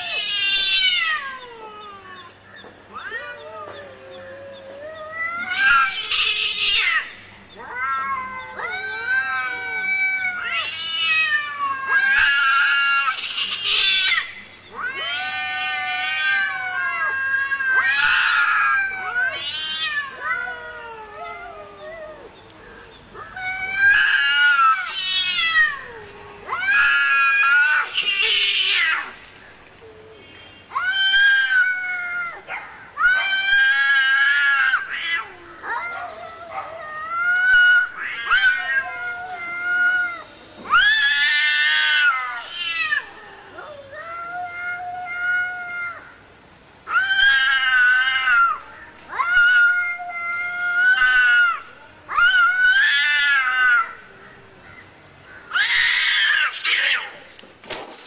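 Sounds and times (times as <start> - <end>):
cats yowling: 0.0 - 29.2, 29.8 - 54.6, 55.4 - 58.0.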